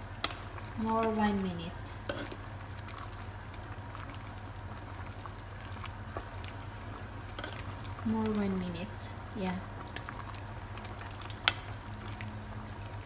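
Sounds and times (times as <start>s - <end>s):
pasta simmering in a pot: 0.0s - 13.0s.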